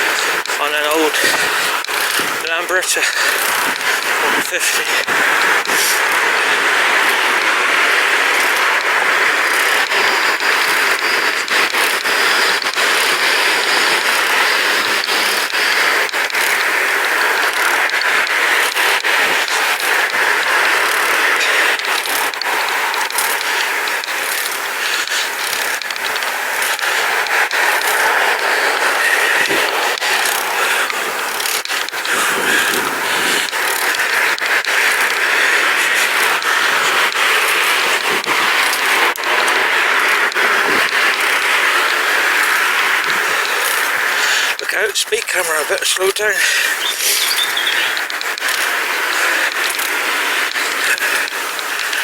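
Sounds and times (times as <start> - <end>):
wind and tyre noise: 0.0 - 44.6, 46.6 - 52.0
bicycle freewheel ticking: 0.0 - 52.0.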